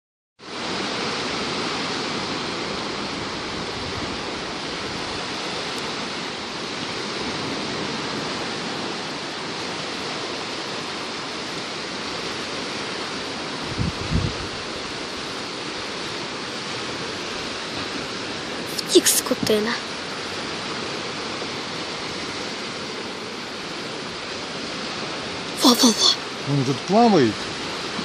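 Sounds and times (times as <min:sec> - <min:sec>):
sea surf washing: 0:00.4 - 0:28.0.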